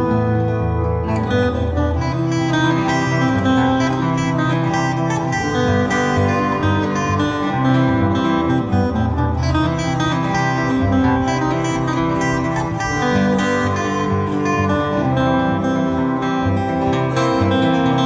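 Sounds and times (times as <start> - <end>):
acoustic guitar ragtime tune: 0.0 - 18.0.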